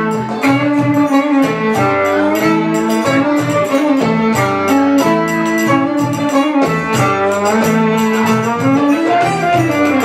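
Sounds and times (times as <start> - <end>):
percussion beat: 0.0 - 10.0
plucked strings: 0.0 - 10.0
violin melody: 0.0 - 10.0.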